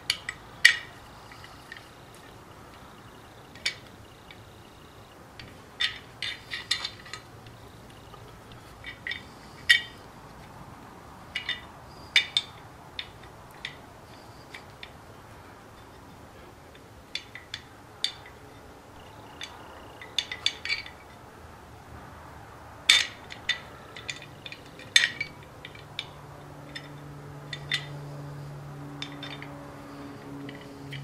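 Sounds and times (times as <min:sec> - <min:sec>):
metal parts clinking together: 0:00.0 - 0:10.1, 0:11.3 - 0:15.0, 0:16.7 - 0:21.2, 0:22.9 - 0:28.2, 0:29.0 - 0:31.0.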